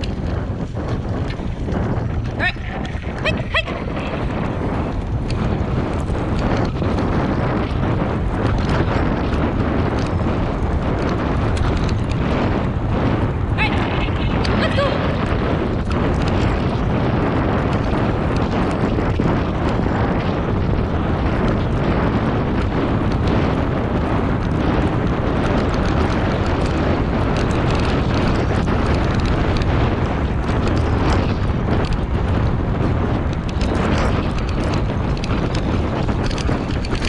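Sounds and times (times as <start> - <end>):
small rattles: 0.0 - 37.0
tyres rumbling on dirt: 0.0 - 37.0
wind buffeting microphone: 0.0 - 37.0.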